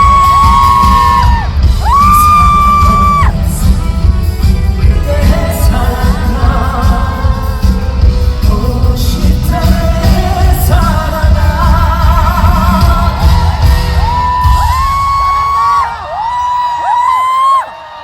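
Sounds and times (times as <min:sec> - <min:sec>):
person singing with vibrato: 0:00.0 - 0:15.0
heavy bass backing music: 0:00.0 - 0:17.1.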